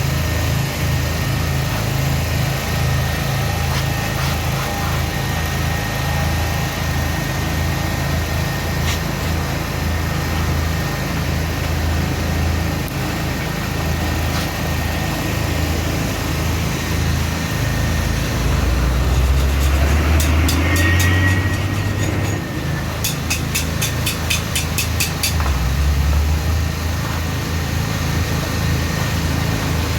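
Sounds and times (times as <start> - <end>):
deep loud engine: 0.0 - 29.9
engine idling: 0.0 - 29.9.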